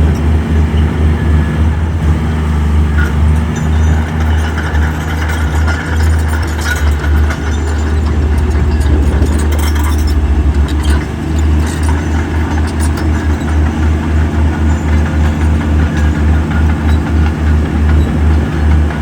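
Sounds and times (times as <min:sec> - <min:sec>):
heavy diesel engine throbbing: 0:00.0 - 0:19.0
sharp metal clanks: 0:03.0 - 0:19.0.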